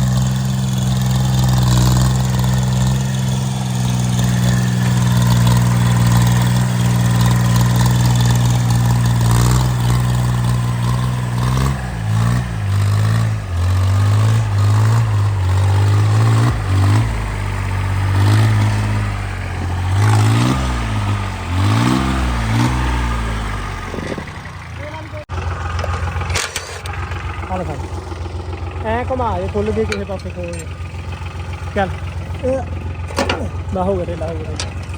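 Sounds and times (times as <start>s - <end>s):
tractor engine revving: 0.0s - 34.9s.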